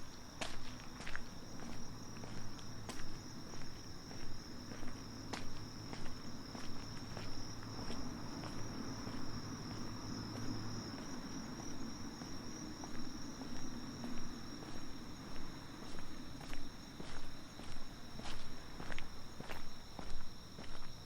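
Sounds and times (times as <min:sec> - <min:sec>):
night insects trilling: 0:00.0 - 0:21.0
soft footsteps: 0:00.0 - 0:21.0.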